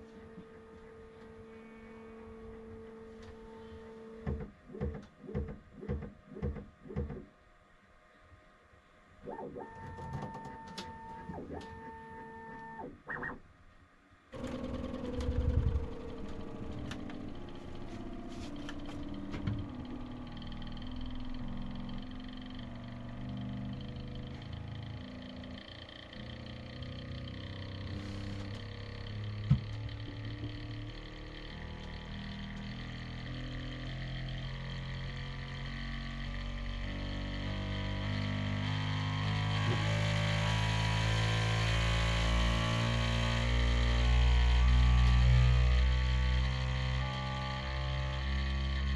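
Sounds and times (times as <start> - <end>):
stepper motor high whine: 0.0 - 5.9, 9.2 - 13.4, 14.4 - 48.9
low motor tones: 0.0 - 48.9.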